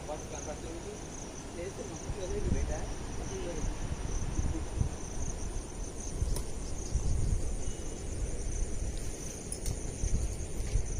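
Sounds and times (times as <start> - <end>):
crickets chirring: 0.0 - 10.9.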